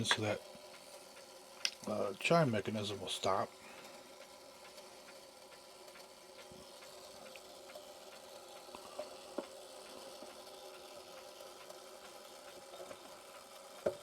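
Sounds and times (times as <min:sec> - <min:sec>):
clock mechanism whirring: 0:00.0 - 0:14.0.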